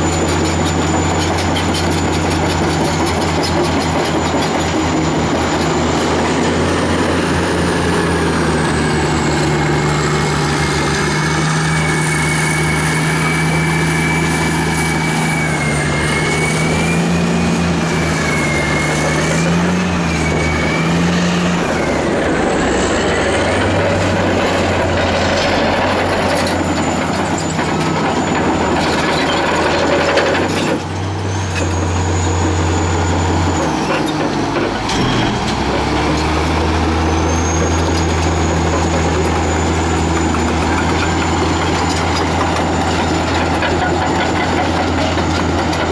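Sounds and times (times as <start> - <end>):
heavy diesel engines under load: 0.0 - 45.9.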